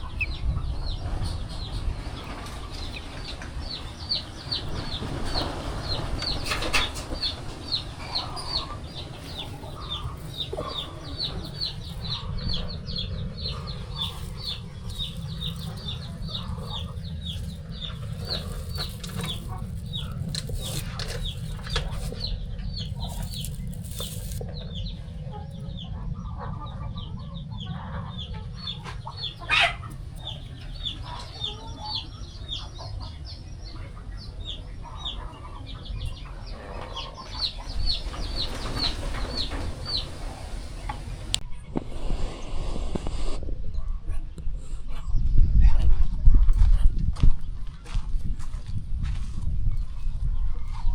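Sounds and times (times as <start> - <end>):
chicks peeping: 0.0 - 50.9
low steady rumble: 0.0 - 50.9.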